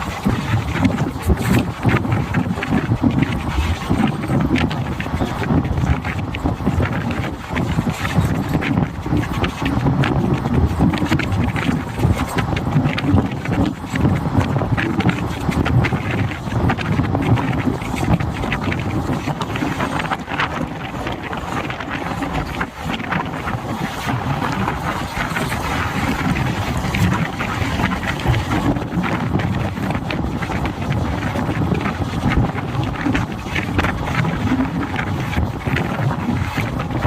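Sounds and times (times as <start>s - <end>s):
train wheels rumbling on rails: 0.0s - 37.0s
wind buffeting microphone: 0.0s - 37.0s.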